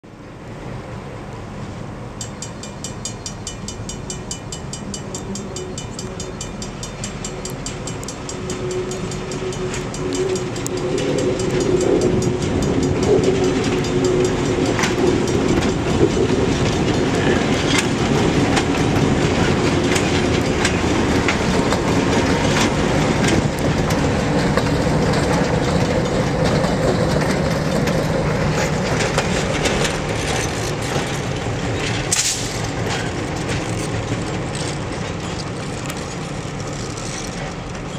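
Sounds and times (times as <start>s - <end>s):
diesel locomotive engines: 0.0s - 37.9s
wheels clicking over rail joints: 2.2s - 37.9s.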